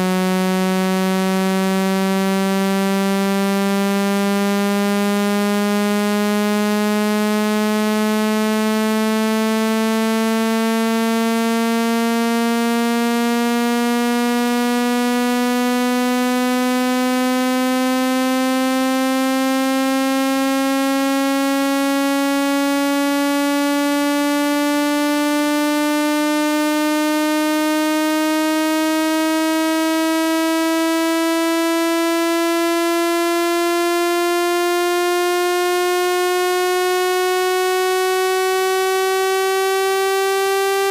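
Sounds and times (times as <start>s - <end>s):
buzzy tone rising in pitch: 0.0s - 40.9s.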